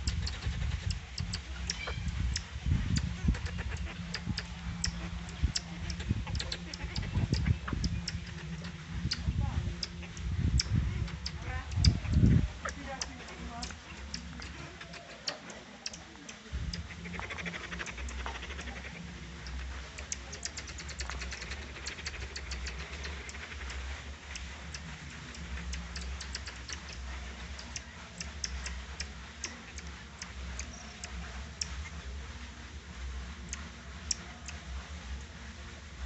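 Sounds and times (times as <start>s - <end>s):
marmosets high-pitched calls: 0.0s - 32.0s
rapid twittering: 0.0s - 35.7s.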